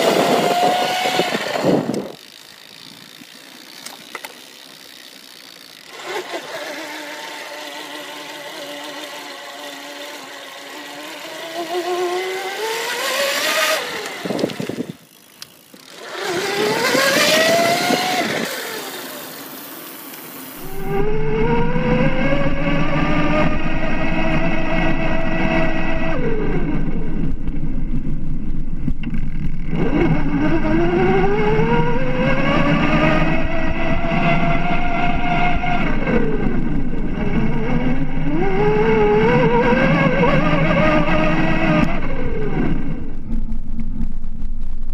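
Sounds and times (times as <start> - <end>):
electric bike motor whining: 0.0 - 44.7.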